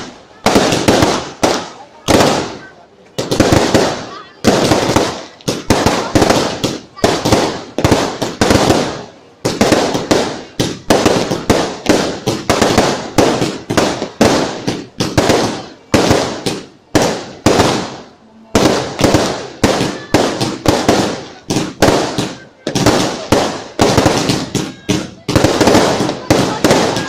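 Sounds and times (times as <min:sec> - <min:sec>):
fireworks banging: 0:00.0 - 0:27.0.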